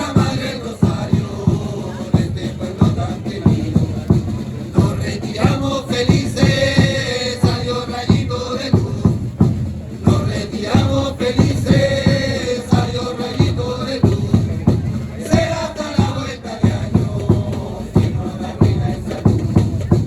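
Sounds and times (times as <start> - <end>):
chanted singing: 0.0 - 20.0
drums beating steady rhythm: 0.0 - 20.0.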